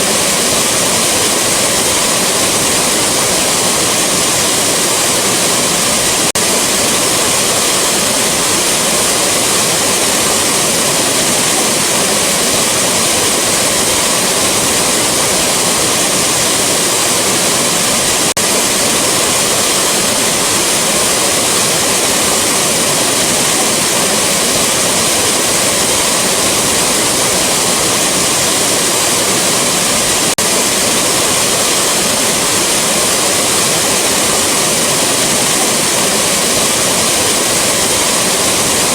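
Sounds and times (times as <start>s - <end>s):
roar of waterfall: 0.0s - 38.9s.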